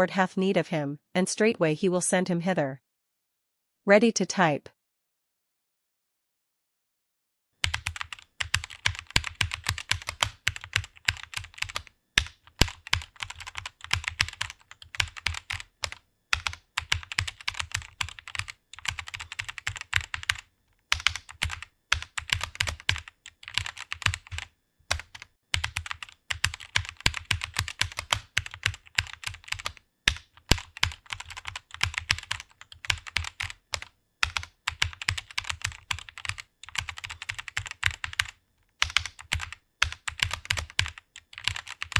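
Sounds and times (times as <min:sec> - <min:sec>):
computer keyboard typing: 0:07.6 - 0:41.9.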